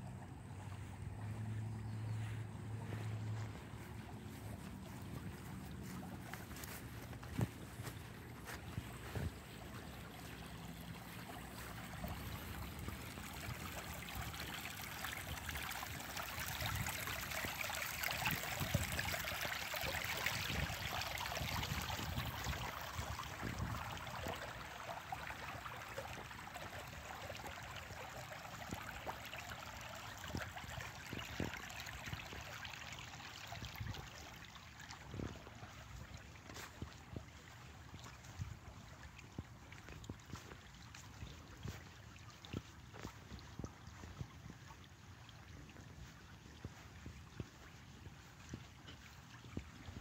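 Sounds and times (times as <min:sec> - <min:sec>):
creek trickling and gurgling: 0:00.0 - 0:50.0.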